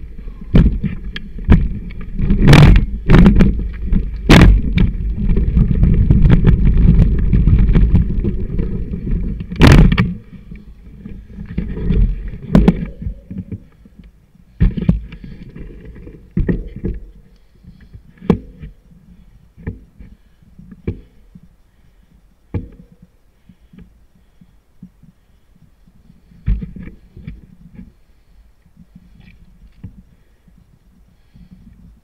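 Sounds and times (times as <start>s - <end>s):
bike tyres rumbling: 0.0s - 13.9s, 14.5s - 32.0s.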